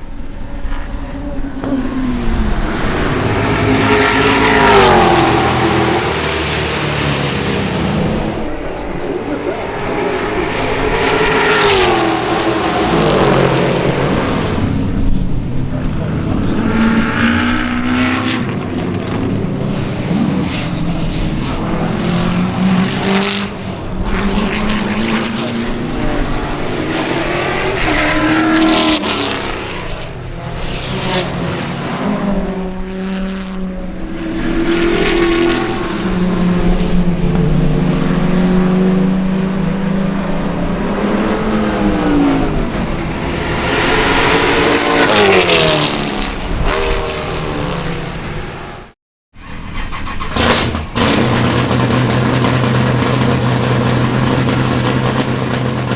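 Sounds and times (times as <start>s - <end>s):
race car engine at full throttle: 0.0s - 55.9s.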